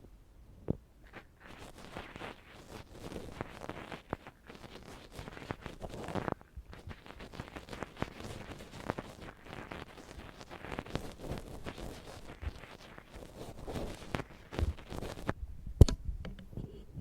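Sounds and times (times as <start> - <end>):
ear pick scratching and scraping: 0.7 - 15.4
rustles: 1.0 - 15.4.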